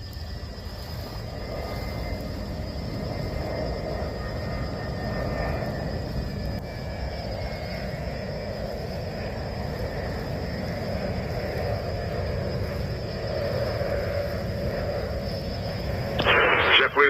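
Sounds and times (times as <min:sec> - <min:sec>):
faint whine: 0:00.0 - 0:17.0
jet engines rushing: 0:00.0 - 0:17.0.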